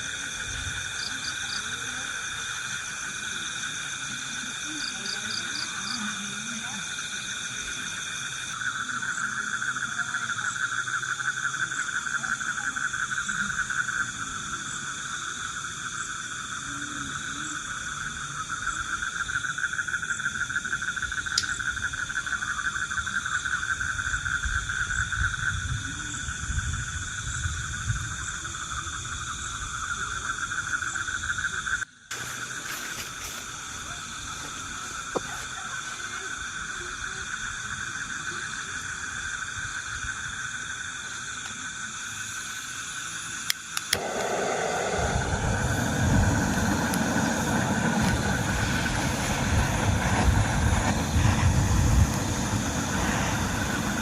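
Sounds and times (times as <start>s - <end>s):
insects and frogs trilling: 0.0s - 54.0s.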